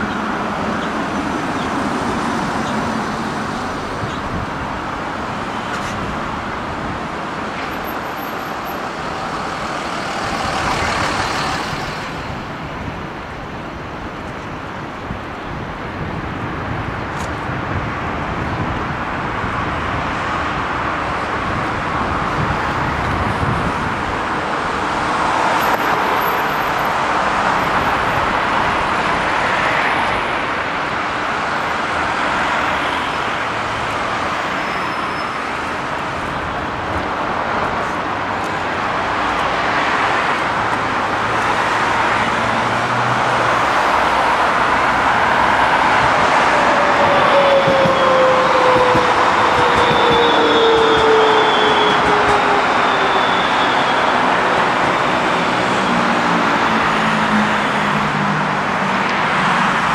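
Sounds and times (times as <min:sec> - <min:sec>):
city road traffic: 0:00.0 - 0:59.9.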